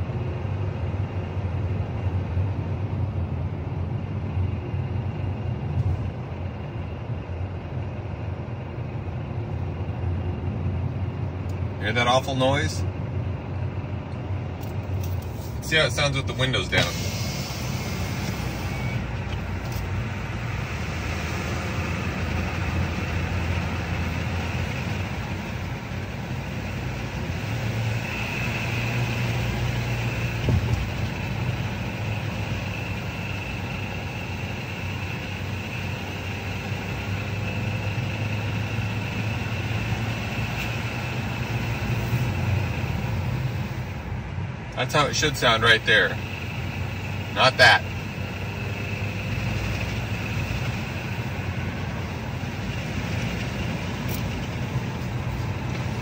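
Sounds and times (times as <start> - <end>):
car engine: 0.0 - 56.0
high engine whine: 0.0 - 56.0
road noise: 0.0 - 56.0.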